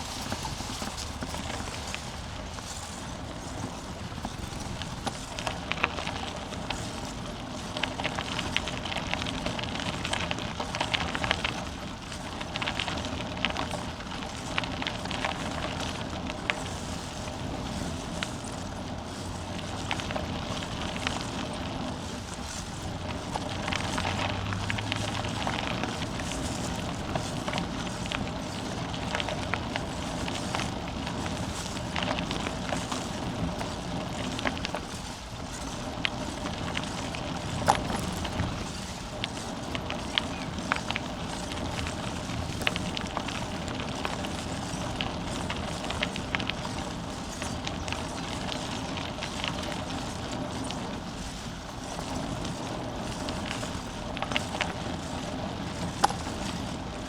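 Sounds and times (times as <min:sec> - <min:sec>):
bicycle tyres rolling: 0:00.0 - 0:57.0
clicks and rattles from trail: 0:00.0 - 0:57.0.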